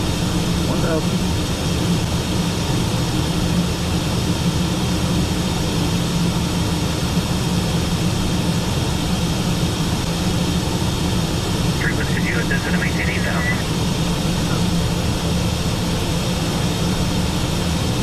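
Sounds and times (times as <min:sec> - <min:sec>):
airflow rush in cockpit: 0:00.0 - 0:18.0
low jet engine drone: 0:00.0 - 0:18.0.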